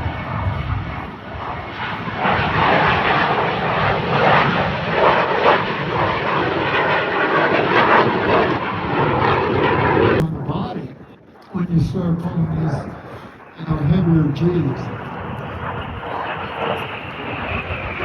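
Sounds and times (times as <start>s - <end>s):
jet aircraft flying low: 0.0s - 18.0s.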